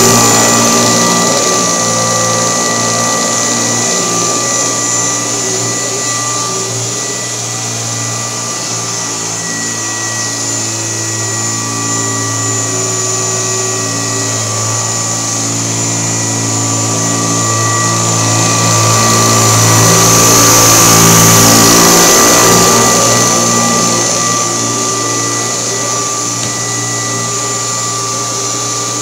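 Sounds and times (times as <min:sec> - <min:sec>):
upright vacuum running: 0:00.0 - 0:29.0.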